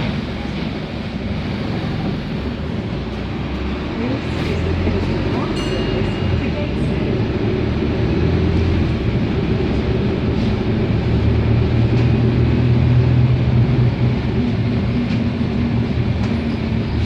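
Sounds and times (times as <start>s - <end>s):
bus engine low drone: 0.0s - 17.0s.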